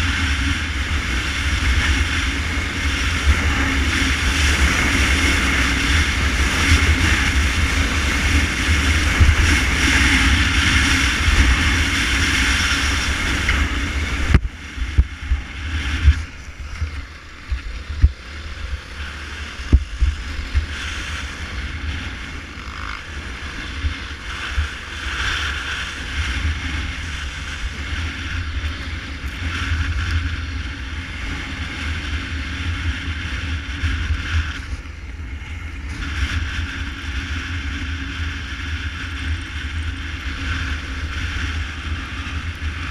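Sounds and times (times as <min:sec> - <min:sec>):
motorcycle engine running: 0:00.0 - 0:42.9
wind noise on microphone: 0:00.0 - 0:42.9.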